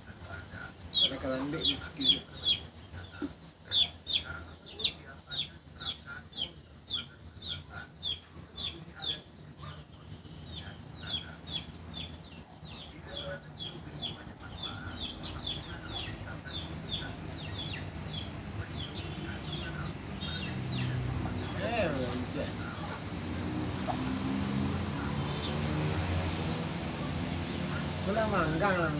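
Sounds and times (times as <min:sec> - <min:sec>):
bird chirping: 0:00.0 - 0:28.9.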